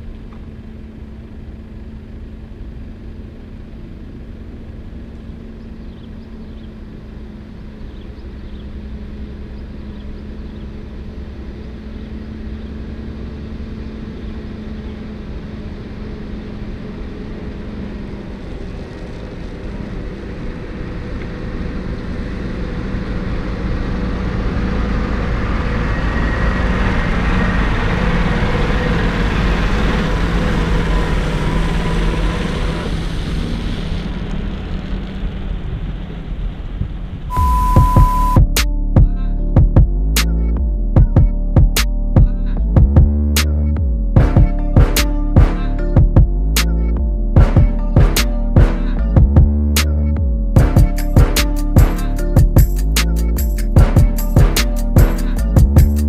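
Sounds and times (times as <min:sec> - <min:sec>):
diesel truck passing: 0:00.0 - 0:39.5, 0:41.9 - 0:56.0.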